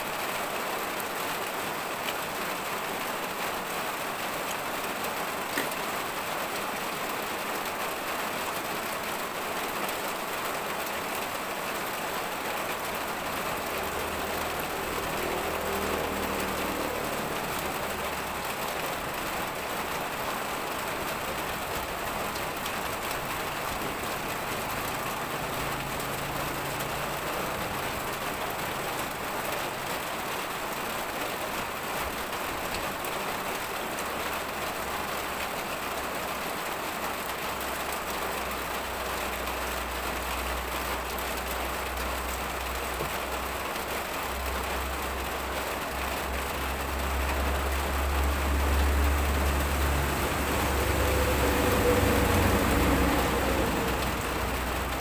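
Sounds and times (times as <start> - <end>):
rain-like hiss: 0.0 - 55.0.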